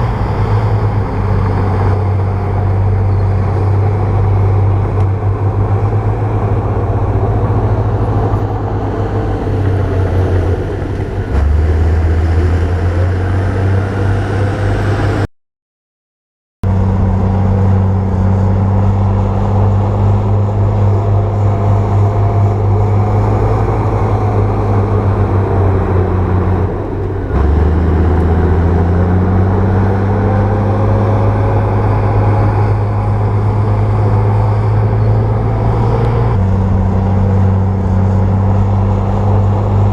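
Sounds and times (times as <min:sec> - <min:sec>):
bulldozer diesel engine running: 0:00.0 - 0:15.3, 0:16.6 - 0:39.9.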